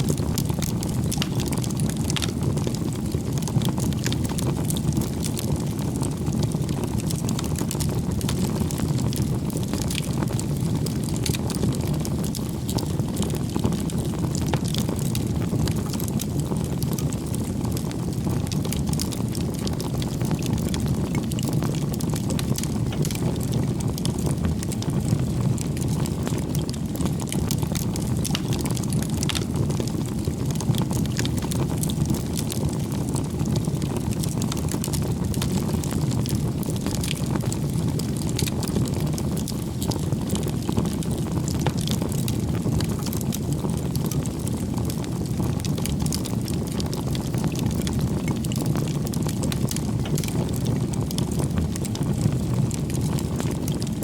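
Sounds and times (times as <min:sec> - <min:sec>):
bonfire flames roaring: 0:00.0 - 0:54.0
wood crackling and popping: 0:00.0 - 0:54.0.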